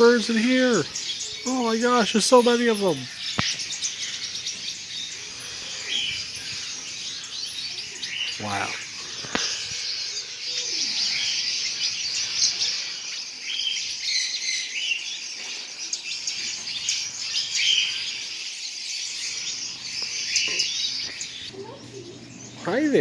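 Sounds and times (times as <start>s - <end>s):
many birds chirping: 0.0s - 23.0s.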